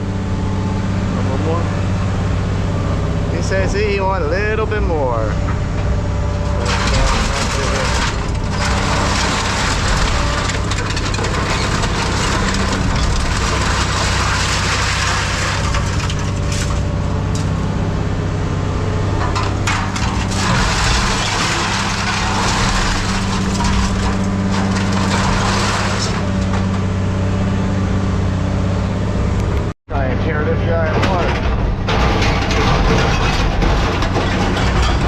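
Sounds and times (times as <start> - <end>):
heavy machine engine running: 0.0 - 35.0
scrap metal crunching and cracking: 0.4 - 29.8, 30.7 - 35.0.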